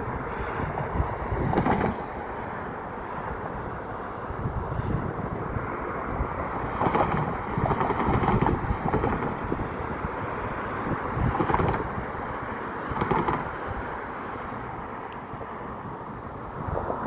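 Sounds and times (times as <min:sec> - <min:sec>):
steady outdoor rumble: 0:00.0 - 0:17.0
wind buffeting microphone: 0:00.0 - 0:17.0.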